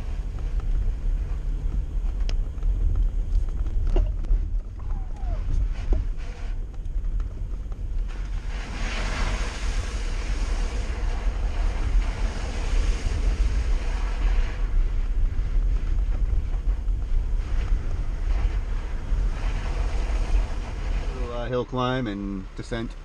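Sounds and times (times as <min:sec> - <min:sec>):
wind buffeting microphone: 0:00.0 - 0:21.6
vehicle engine and tyre rumble: 0:00.0 - 0:23.0.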